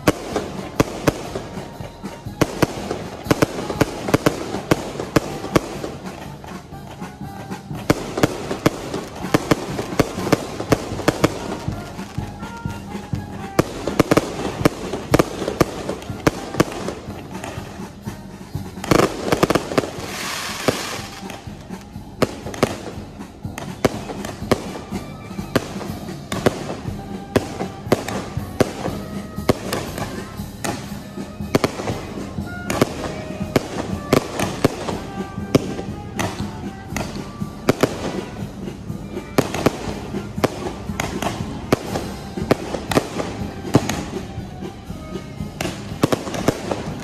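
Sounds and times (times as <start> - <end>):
fireworks bangs and cracks: 0.0 - 47.0
fireworks crackling hiss: 0.0 - 47.0
music: 0.0 - 47.0.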